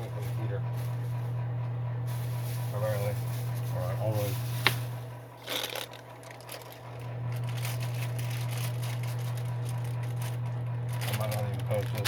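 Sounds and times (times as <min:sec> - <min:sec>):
space heater fan humming: 0:00.0 - 0:12.0.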